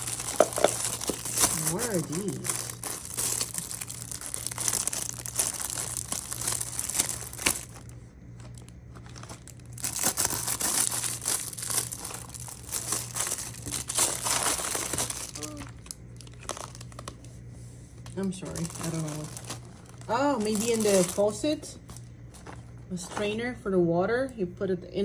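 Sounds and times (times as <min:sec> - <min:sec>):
packaging tearing: 0:00.0 - 0:17.2, 0:18.4 - 0:22.7
packaging crinkling and rustling: 0:00.0 - 0:23.4
low steady hum: 0:00.0 - 0:25.0.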